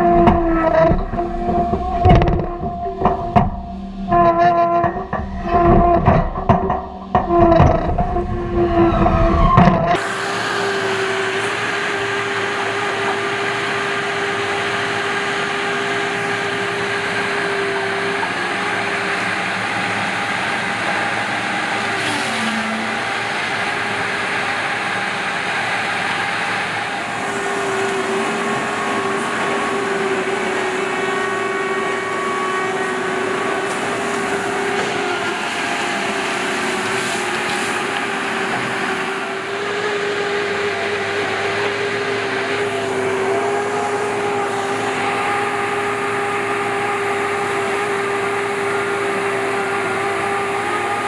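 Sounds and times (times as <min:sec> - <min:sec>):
constant hydraulic whine: 0:00.0 - 0:51.0
diesel engine running: 0:00.0 - 0:51.0.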